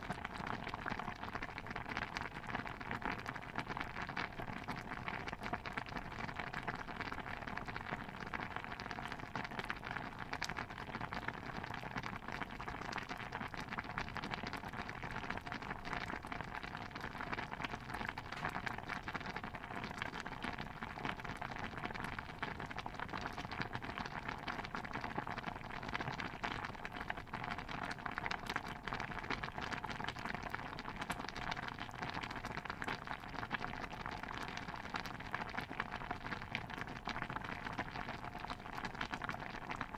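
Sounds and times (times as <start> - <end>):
stew bubbling: 0.0 - 39.9.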